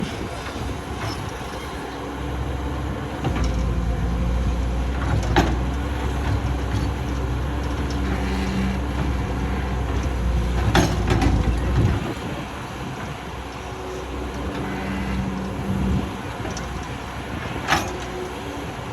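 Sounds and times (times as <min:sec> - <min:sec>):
heavy machinery engine rumbling: 0:00.0 - 0:18.9.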